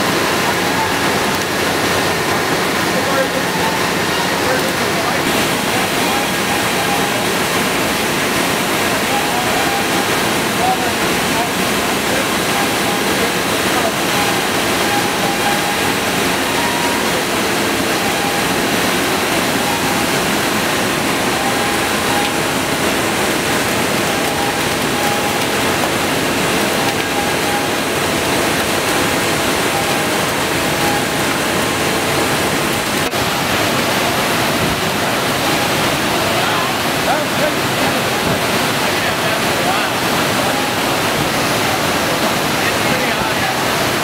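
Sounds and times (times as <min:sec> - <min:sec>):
mill machinery roar: 0:00.0 - 0:44.0.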